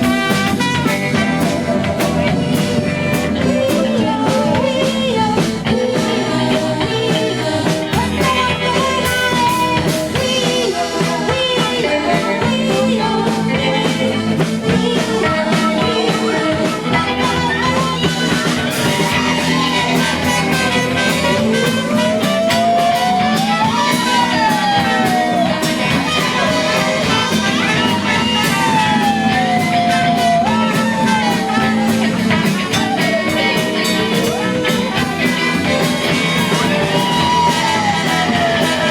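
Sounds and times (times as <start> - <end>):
rock band playing: 0.0 - 38.9
sliding bending lead melody: 0.0 - 38.9.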